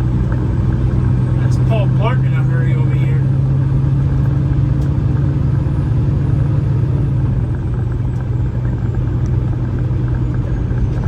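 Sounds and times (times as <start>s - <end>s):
diesel engine drone: 0.0s - 11.0s
road noise: 0.0s - 11.0s.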